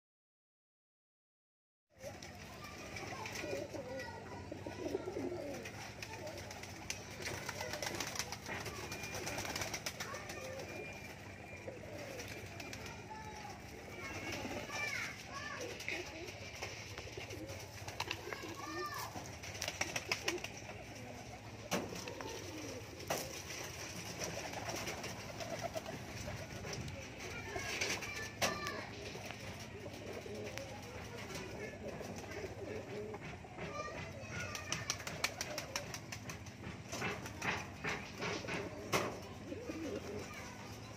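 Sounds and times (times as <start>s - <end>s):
pigeons cooing: 2.6s - 26.9s, 29.0s - 33.5s, 35.0s - 40.8s.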